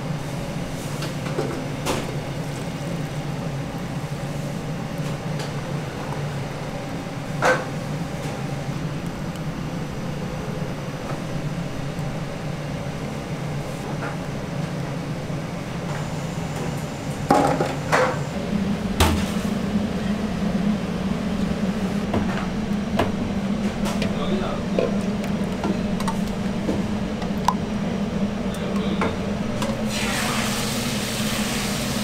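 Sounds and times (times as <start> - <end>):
low kitchen machine hum: 0.0 - 32.0.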